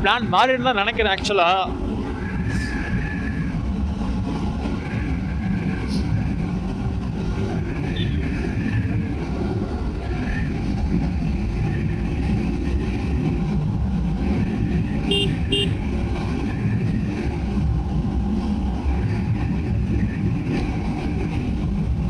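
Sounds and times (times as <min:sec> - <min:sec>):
motorcycle engine running: 0:03.0 - 0:22.0.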